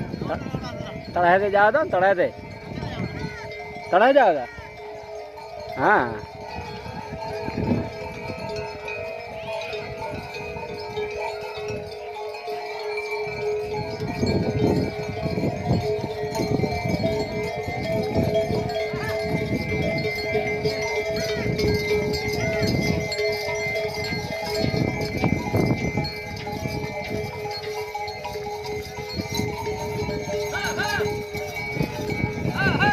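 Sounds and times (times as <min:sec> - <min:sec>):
cowbells ringing: 0:00.0 - 0:32.9.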